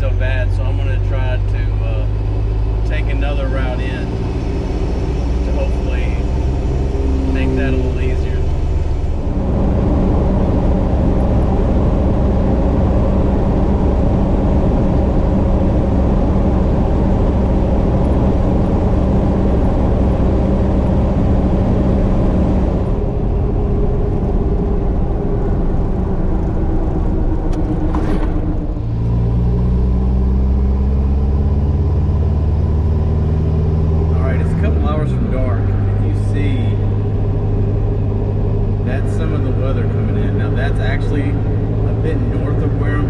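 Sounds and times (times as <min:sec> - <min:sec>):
diesel engine hum: 0:00.0 - 0:43.0
road noise: 0:00.0 - 0:43.0.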